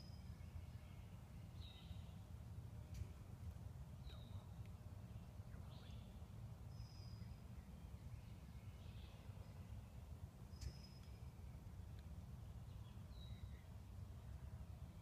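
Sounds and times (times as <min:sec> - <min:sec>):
songbird chirps: 0:00.0 - 0:15.0.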